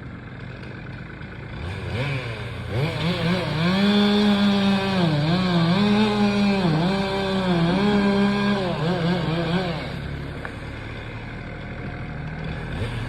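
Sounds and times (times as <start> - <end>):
chainsaw revving and cutting: 0.0 - 13.0.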